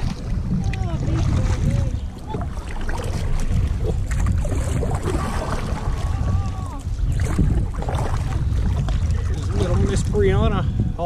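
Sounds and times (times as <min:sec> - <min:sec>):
river water: 0:00.0 - 0:11.0
wind rumble on microphone: 0:00.0 - 0:11.0.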